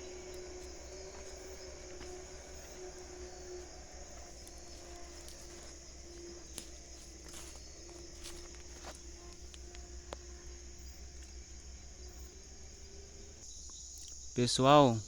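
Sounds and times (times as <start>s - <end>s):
high-pitched insect shrill: 0.0s - 14.4s
low wavering insect drone: 0.0s - 15.0s.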